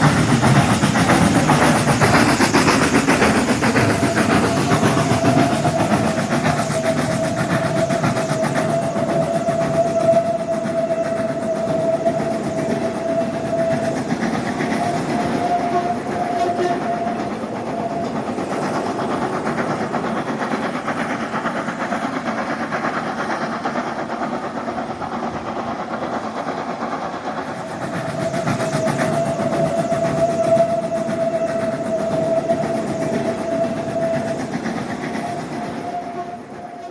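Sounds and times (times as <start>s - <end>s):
train rolling on track: 0.0s - 36.9s.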